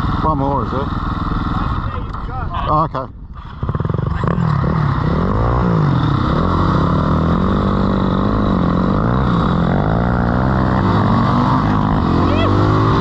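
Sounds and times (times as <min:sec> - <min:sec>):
dirt bike engine revving: 0:00.0 - 0:02.0, 0:03.4 - 0:13.0.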